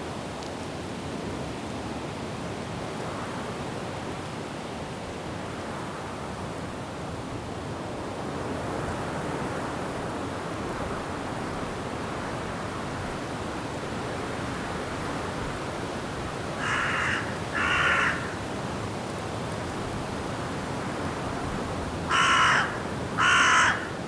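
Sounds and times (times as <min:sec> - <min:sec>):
wind rushing through trees: 0:00.0 - 0:24.0.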